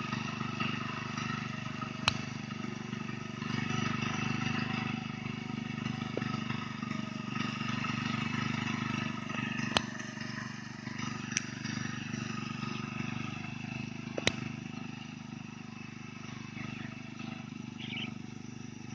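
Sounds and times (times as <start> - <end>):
harvester engine drone: 0.0 - 18.9.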